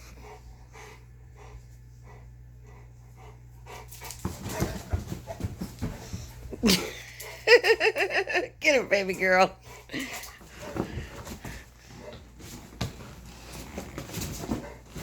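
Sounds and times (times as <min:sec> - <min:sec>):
dog panting: 0:00.0 - 0:08.1, 0:08.7 - 0:15.0.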